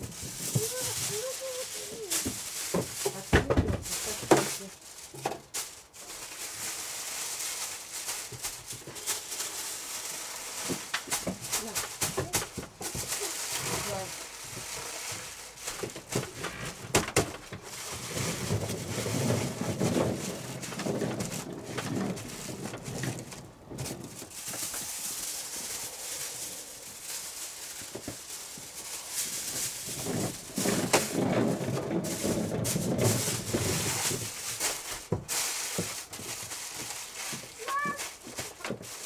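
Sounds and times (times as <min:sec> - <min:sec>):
aluminium foil crinkling: 0:00.0 - 0:39.0.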